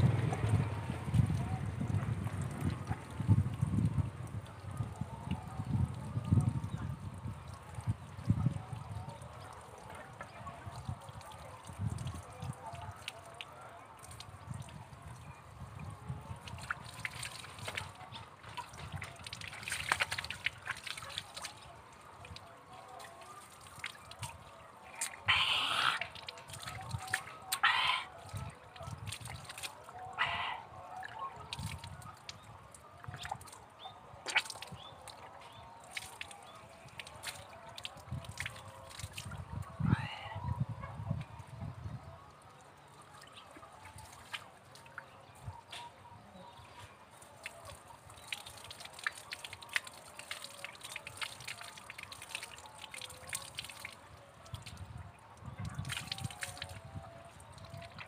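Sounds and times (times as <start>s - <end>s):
water running from a hose: 0.0s - 30.8s, 31.4s - 40.2s, 46.4s - 58.0s
water splashing and dripping: 0.0s - 58.0s.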